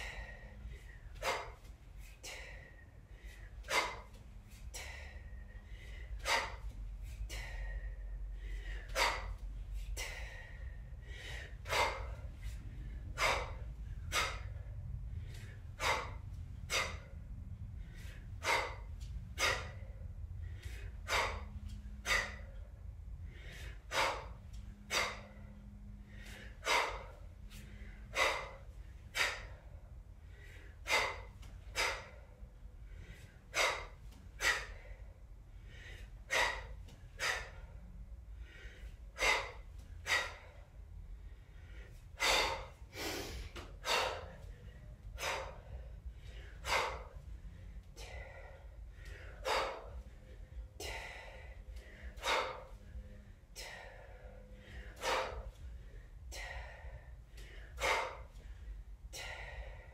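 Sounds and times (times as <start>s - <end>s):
woman exhaling forcefully: 0.0s - 4.2s, 4.8s - 22.7s, 23.3s - 32.3s, 33.1s - 35.1s, 35.7s - 37.8s, 38.5s - 40.6s, 41.8s - 47.3s, 48.0s - 50.0s, 50.8s - 52.8s, 53.6s - 55.6s, 56.3s - 58.4s.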